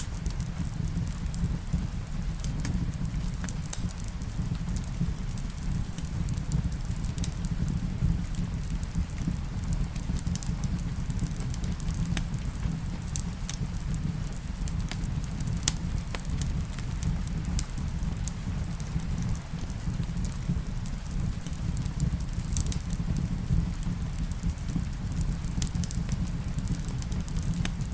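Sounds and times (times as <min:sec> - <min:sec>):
fireplace crackling: 0:00.0 - 0:27.9
soft rain: 0:00.0 - 0:27.9.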